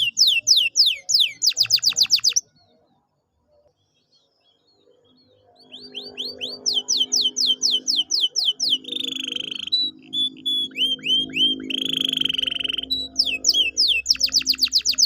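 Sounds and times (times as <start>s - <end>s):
canary singing: 0.0s - 2.6s, 4.8s - 15.0s.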